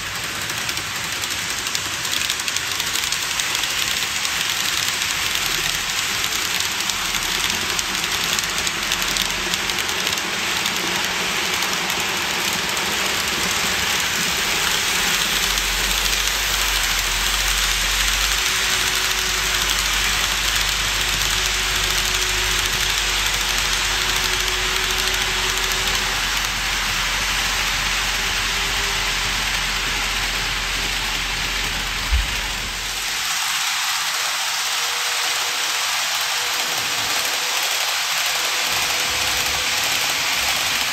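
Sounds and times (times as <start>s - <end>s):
model train wheels hissing on rail: 0.0s - 40.9s.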